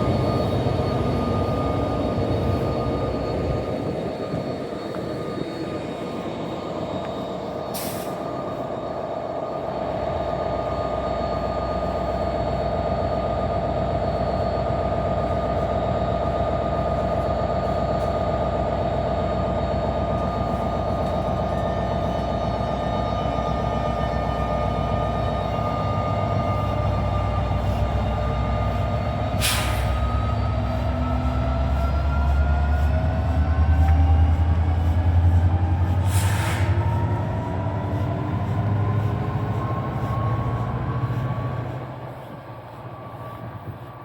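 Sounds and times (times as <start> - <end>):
passenger train passing: 0.0 - 44.0.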